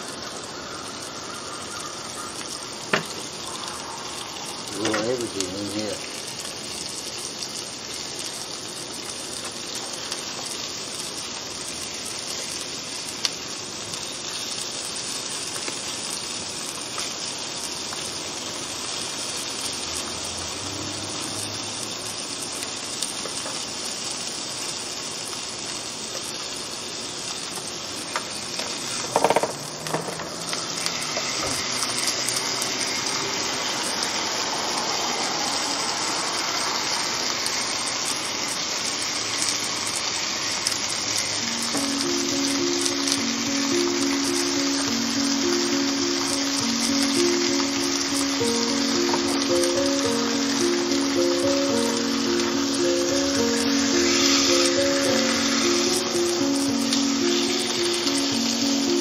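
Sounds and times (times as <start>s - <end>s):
steak sizzling on a grill: 0.0s - 59.0s.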